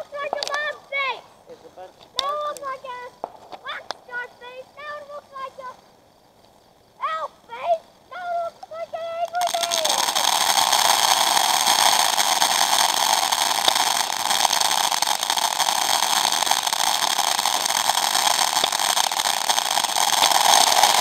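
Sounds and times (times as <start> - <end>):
faint crackles: 0.0 - 21.0
firework fountain hissing: 0.0 - 21.0.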